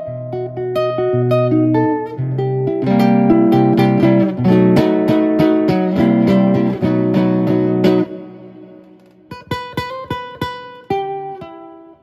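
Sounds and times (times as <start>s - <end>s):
electro-acoustic guitar plucked: 0.0s - 12.0s.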